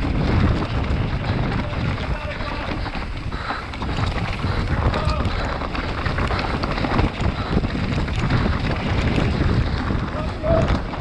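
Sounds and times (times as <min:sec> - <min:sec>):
bike rattling and knocking: 0:00.0 - 0:11.0
wind on microphone: 0:00.0 - 0:11.0.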